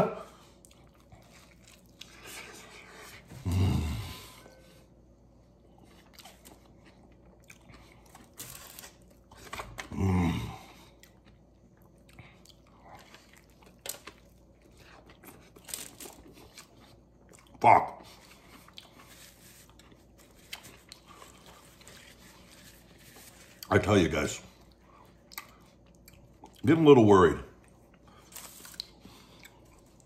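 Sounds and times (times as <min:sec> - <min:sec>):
man chewing food: 0:00.2 - 0:26.8, 0:27.5 - 0:30.0.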